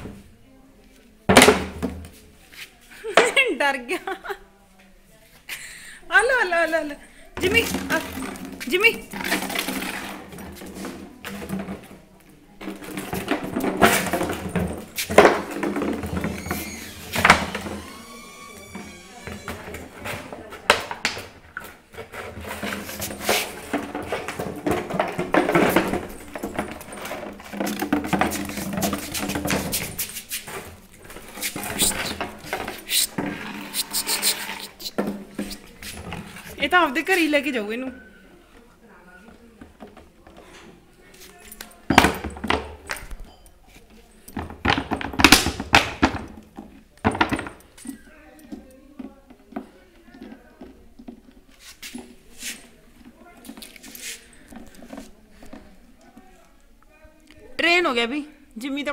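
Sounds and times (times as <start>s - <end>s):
plastic bottle clattering on stone: 1.3s - 2.1s, 7.4s - 18.0s, 18.7s - 37.6s, 39.3s - 56.3s.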